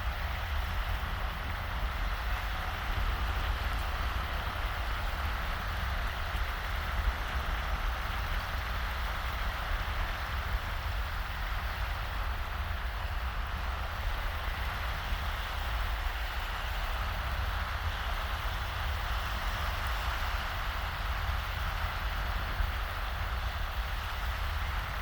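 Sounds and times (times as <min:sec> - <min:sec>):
wind rumble on microphone: 0:00.0 - 0:25.0
small waves washing on sand: 0:00.1 - 0:25.0.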